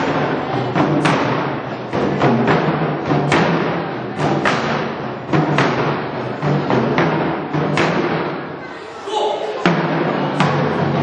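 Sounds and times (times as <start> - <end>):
drumming ensemble playing: 0.0 - 8.6, 9.4 - 11.0
heavy drum strikes: 0.0 - 8.6, 9.5 - 11.0.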